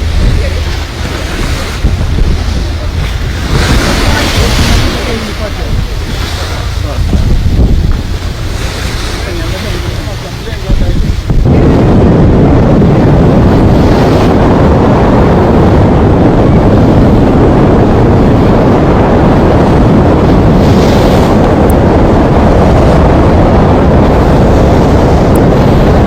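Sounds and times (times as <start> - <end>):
motorboat running: 0.0 - 26.0
wind buffeting microphone: 0.0 - 26.0.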